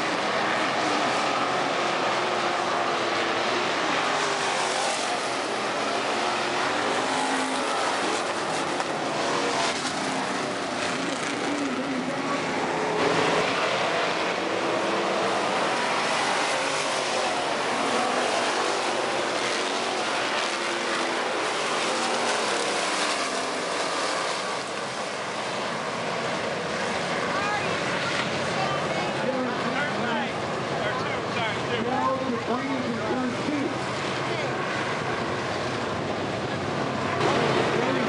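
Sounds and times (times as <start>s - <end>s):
race car engines passing by: 0.0s - 38.0s.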